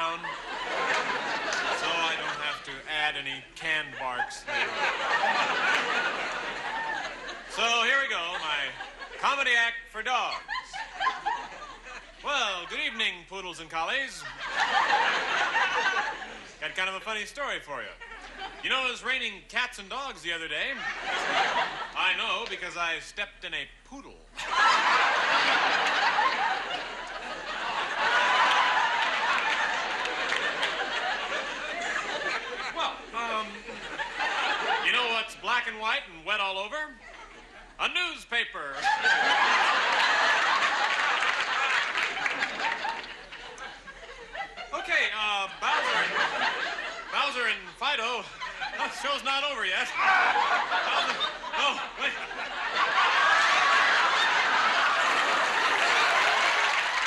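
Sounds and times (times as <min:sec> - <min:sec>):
studio audience laughing: 0:00.0 - 0:13.1, 0:14.0 - 0:17.1, 0:17.8 - 0:19.1, 0:20.6 - 0:22.8, 0:24.3 - 0:36.0, 0:37.0 - 0:37.8, 0:38.6 - 0:57.0.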